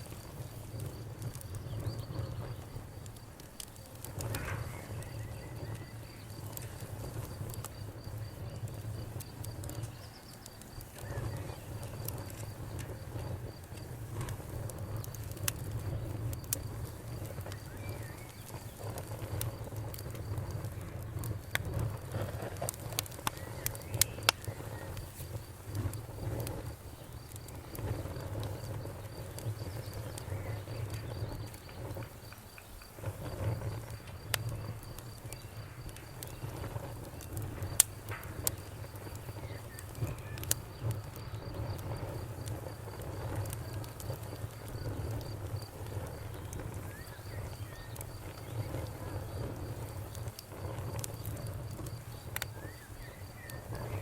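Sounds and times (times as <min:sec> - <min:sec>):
bonfire crackling and popping: 0:00.0 - 0:54.0
crickets chirping: 0:00.0 - 0:54.0
low rumble of burning fire: 0:00.0 - 0:54.0.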